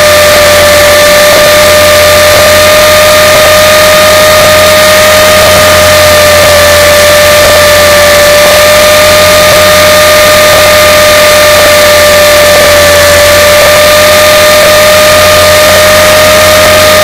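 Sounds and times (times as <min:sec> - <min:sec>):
loud even hiss: 0:00.0 - 0:17.0
rc helicopter motor whine: 0:00.0 - 0:17.0.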